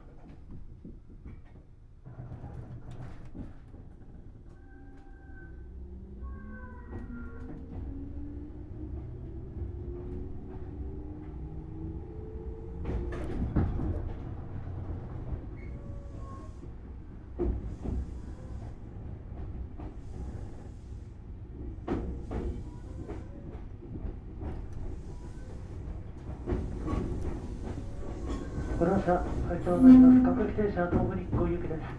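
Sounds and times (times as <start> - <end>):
train wheel rumble: 0.0 - 31.9.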